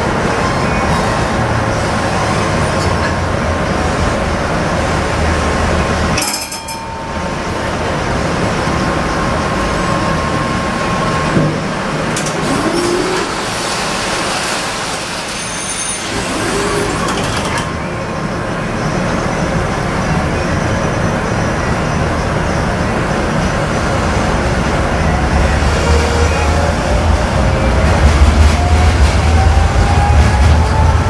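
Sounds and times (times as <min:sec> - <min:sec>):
tram wheels rolling on rails: 0:00.0 - 0:31.0.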